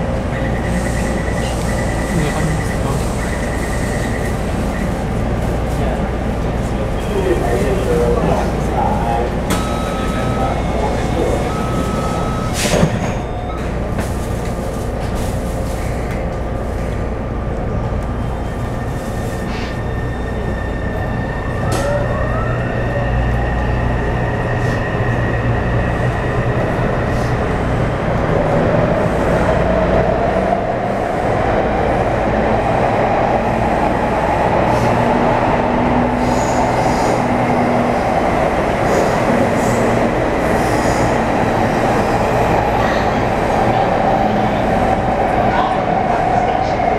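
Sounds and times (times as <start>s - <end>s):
train wheels rolling on rail: 0.0s - 22.1s, 22.7s - 46.9s.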